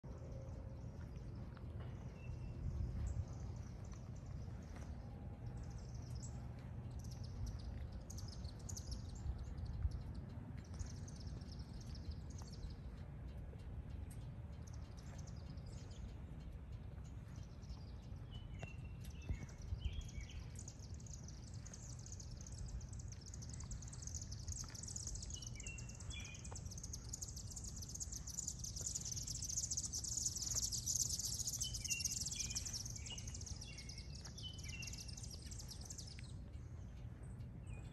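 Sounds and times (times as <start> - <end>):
low steady rumble: 0.0 - 37.9
small birds chirping: 0.0 - 37.9.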